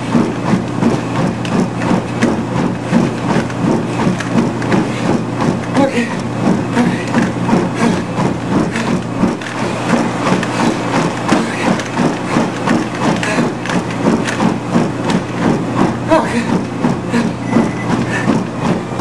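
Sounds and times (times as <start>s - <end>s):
running footfalls on belt: 0.0s - 19.0s
treadmill motor hum: 0.0s - 19.0s.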